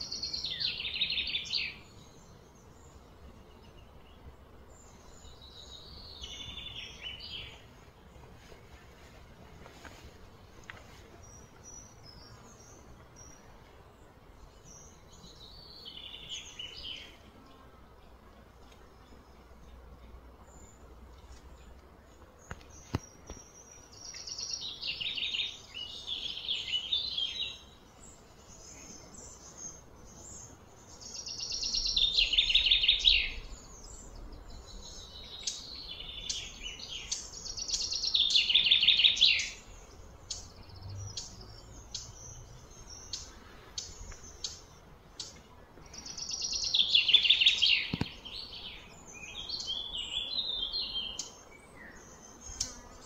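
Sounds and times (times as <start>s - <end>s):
birds singing with rapid trills: 0.0s - 53.0s.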